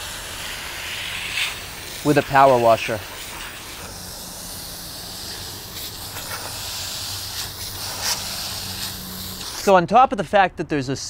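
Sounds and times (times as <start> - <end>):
hose nozzle spraying water: 0.0 - 9.8.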